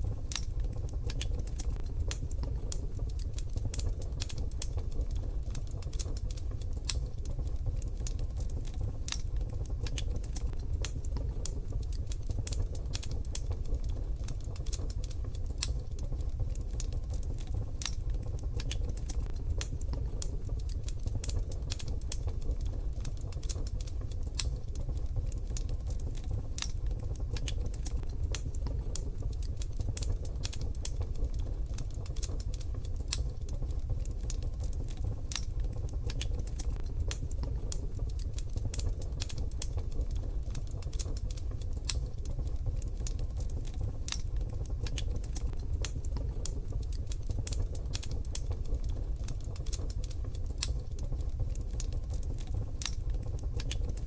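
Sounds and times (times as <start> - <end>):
wood fire crackling in a stove: 0.0 - 54.0.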